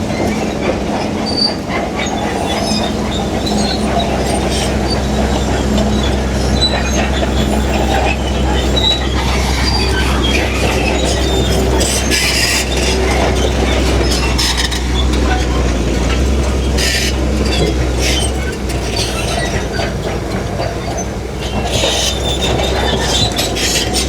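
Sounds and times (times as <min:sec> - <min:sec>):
bulldozer diesel engine droning: 0:00.0 - 0:24.0
steel tracks clanking and squealing: 0:00.0 - 0:24.0.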